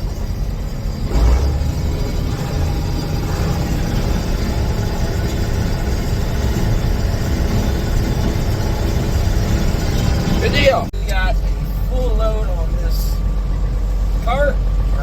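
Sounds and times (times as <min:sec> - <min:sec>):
combine harvester rumbling: 0:00.0 - 0:15.0.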